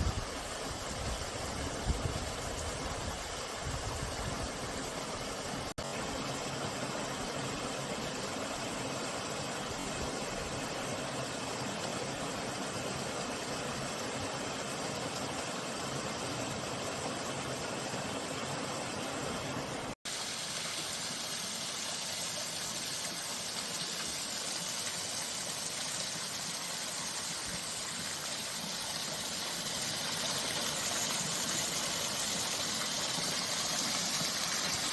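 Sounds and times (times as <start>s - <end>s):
stream rushing: 0.0s - 34.9s.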